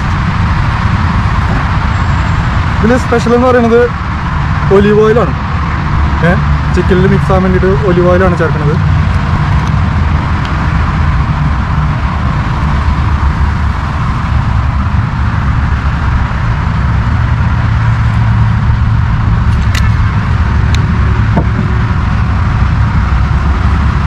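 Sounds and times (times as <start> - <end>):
low rumble with hiss: 0.0 - 24.0.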